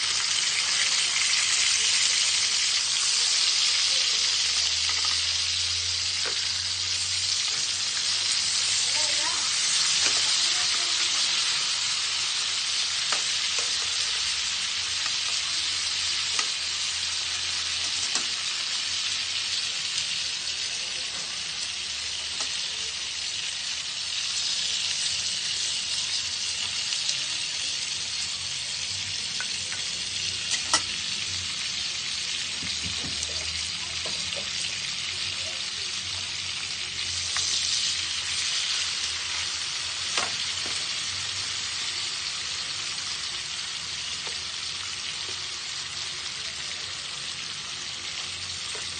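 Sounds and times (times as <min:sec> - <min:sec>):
pork chops sizzling: 0:00.0 - 0:48.9.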